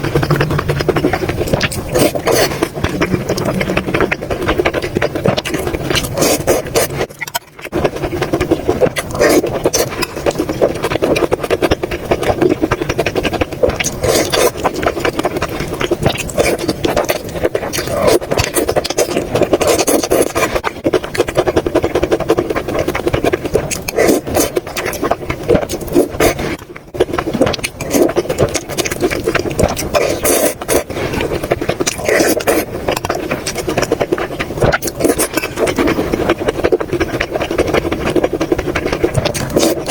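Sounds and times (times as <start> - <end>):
chewing and wet mouth noises: 0.0 - 39.9.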